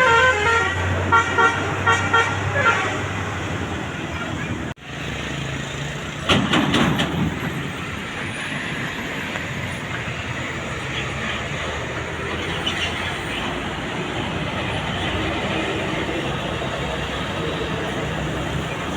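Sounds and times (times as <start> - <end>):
bus passing: 0.0 - 18.9.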